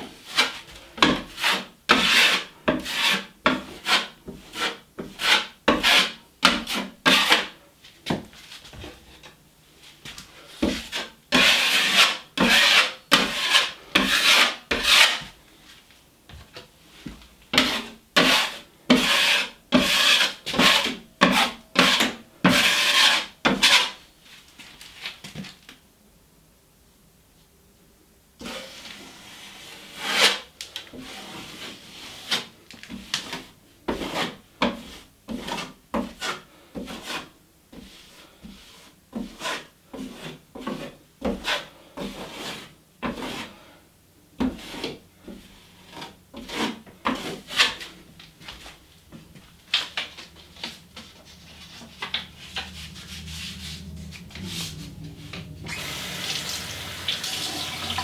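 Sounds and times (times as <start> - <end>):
drywall knife scraping compound: 0.0 - 7.6, 10.4 - 15.4, 17.5 - 24.0, 28.4 - 43.8, 44.4 - 58.0.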